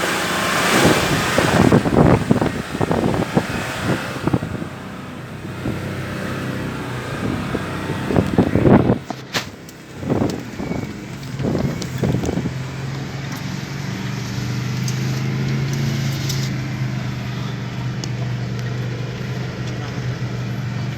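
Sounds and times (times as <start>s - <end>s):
vehicle engine running: 0.0s - 20.9s.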